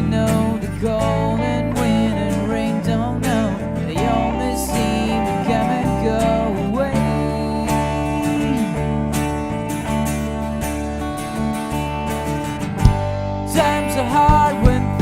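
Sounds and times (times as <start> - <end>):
strummed acoustic guitars: 0.0 - 15.0.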